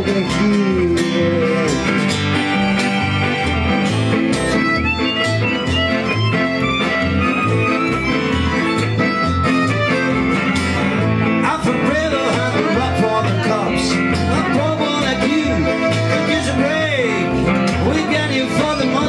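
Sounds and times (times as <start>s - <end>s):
accordion: 0.0s - 19.0s
acoustic guitar: 0.0s - 19.0s
electric guitar bending pitch: 0.0s - 19.0s
steady beat: 0.0s - 19.0s.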